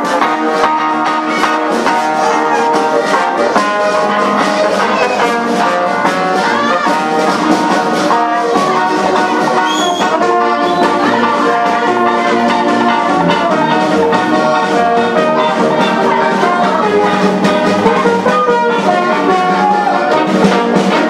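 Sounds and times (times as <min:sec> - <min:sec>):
jazz brass band music: 0:00.0 - 0:21.0.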